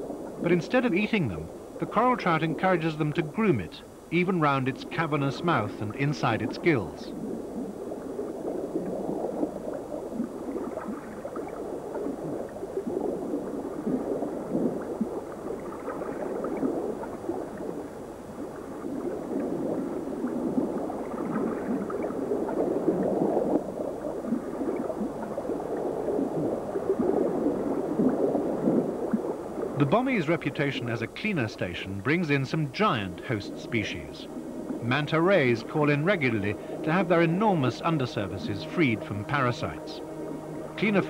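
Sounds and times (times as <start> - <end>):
underwater bubbling and gurgling: 0.0 - 41.0.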